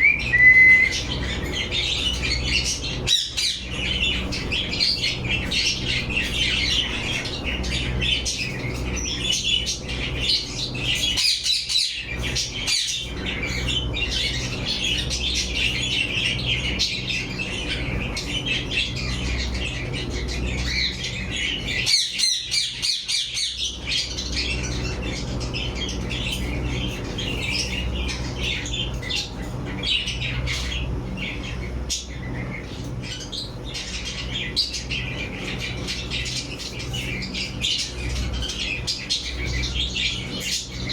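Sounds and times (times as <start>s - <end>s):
parrots chattering and squawking: 0.0s - 40.9s
steady low hum: 0.0s - 40.9s.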